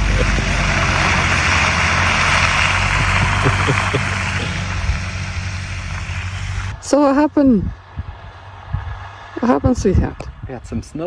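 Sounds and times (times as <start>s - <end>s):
truck engine hum: 0.0s - 9.8s
tyre and road noise: 0.0s - 11.0s.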